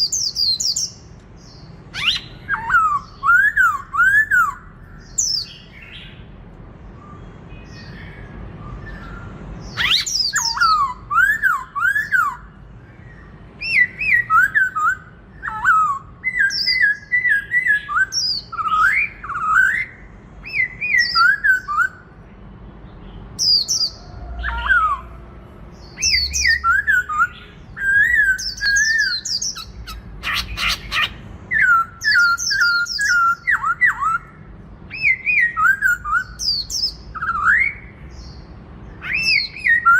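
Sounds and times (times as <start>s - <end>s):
bird singing whistled phrases: 1.9s - 6.1s, 7.0s - 12.5s, 13.2s - 22.1s, 25.8s - 38.4s, 39.0s - 39.9s.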